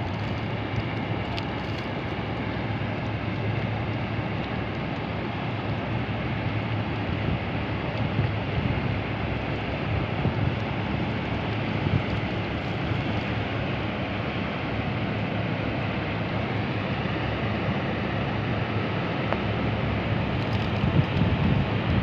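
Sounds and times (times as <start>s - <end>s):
boat engine drone: 0.0s - 22.0s.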